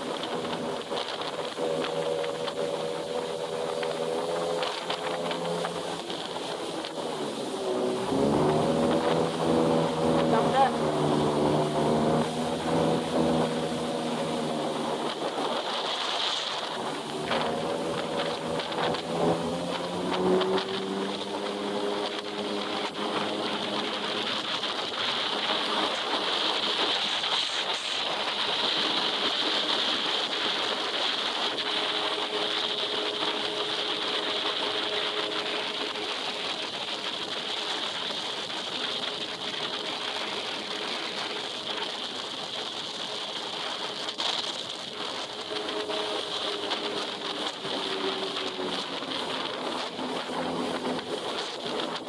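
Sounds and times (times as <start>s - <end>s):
water and wind hiss: 0.0s - 52.0s
watercraft engine drone: 0.0s - 52.0s.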